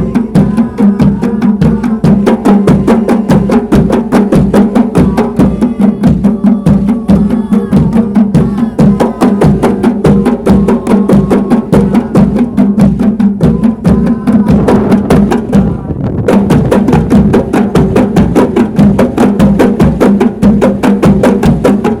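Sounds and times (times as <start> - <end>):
frame drums played by hand: 0.0 - 22.0.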